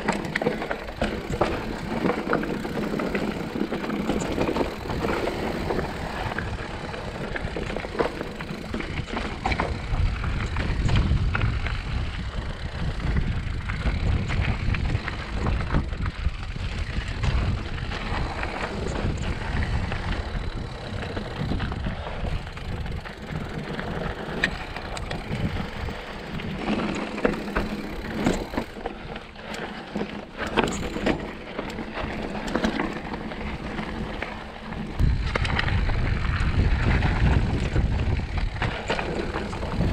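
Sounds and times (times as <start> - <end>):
bike rattling and clicking: 0.0 - 39.9
tyres crunching on dirt and stones: 0.0 - 39.9
wind rumbling on microphone: 0.0 - 39.9.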